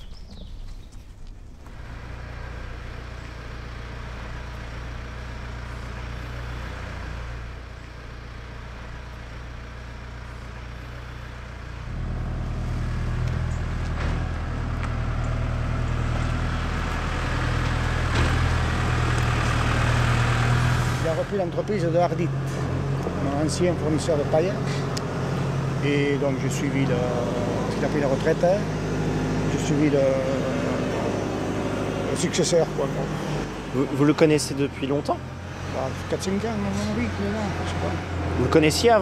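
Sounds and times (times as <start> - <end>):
lorry diesel engine idling: 1.2 - 39.0.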